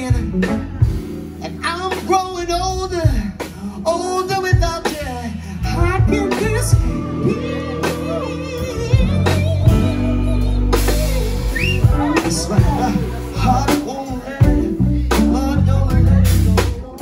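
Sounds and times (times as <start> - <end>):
man singing: 0.0 - 17.0
soul band playing: 0.0 - 17.0.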